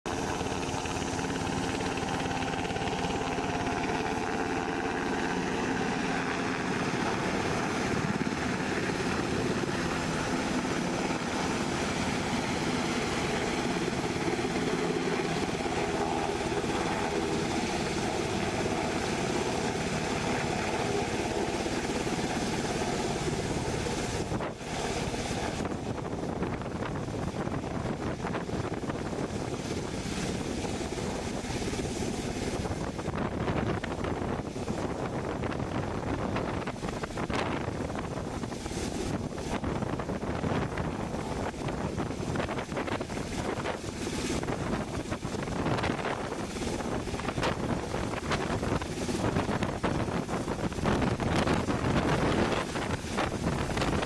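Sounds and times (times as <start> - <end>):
helicopter engines whining: 0.1 - 54.0
helicopter rotor noise: 0.1 - 54.0.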